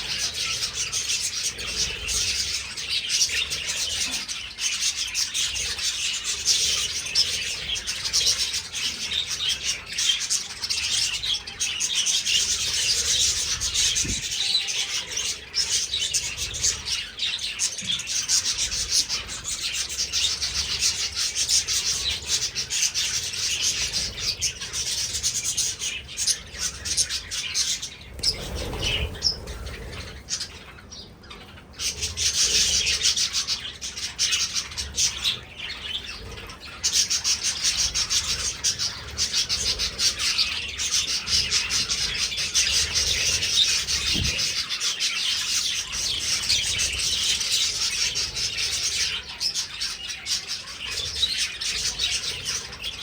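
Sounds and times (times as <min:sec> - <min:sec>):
budgerigars chirping and chattering: 0:00.0 - 0:53.0.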